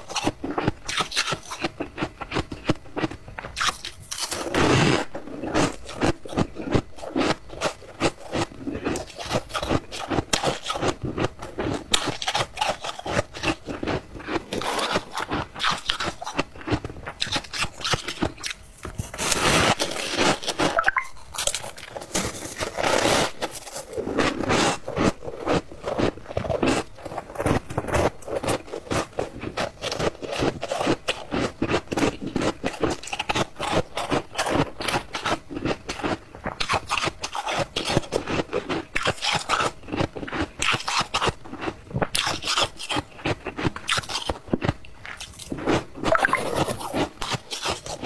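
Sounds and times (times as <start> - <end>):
ice crunching while chewing: 0.0 - 48.0.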